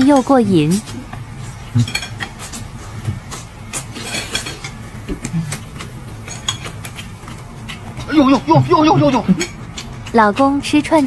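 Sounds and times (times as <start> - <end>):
steady low hum: 0.0 - 11.0
chewing and mouth noises: 0.7 - 11.0.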